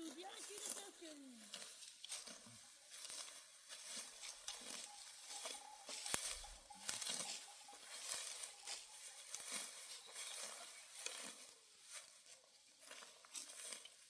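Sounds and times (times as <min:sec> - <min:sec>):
dry stalks rustling and crackling: 0:00.0 - 0:14.0.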